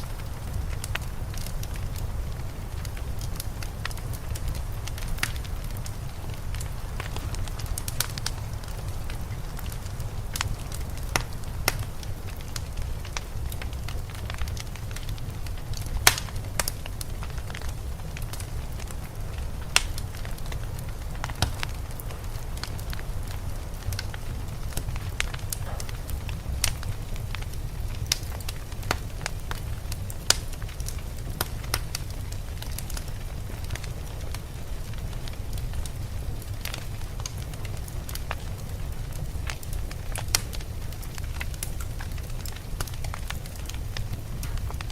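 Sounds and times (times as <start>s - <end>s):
wood fire popping and snapping: 0.0s - 44.9s.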